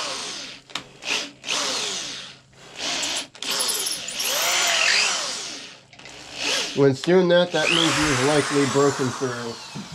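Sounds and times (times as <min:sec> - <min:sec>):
electric drill boring into horn: 0:00.0 - 0:06.8, 0:07.5 - 0:09.9.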